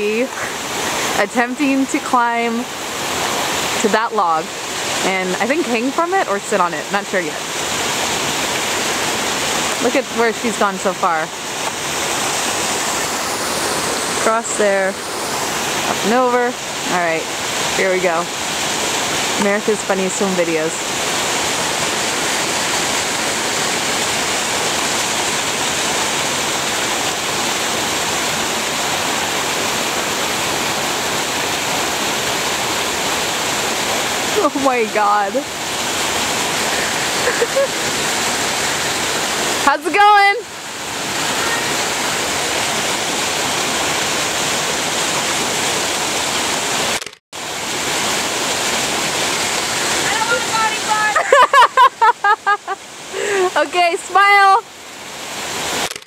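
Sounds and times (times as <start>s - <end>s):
creek rushing over boulders: 0.0s - 56.0s.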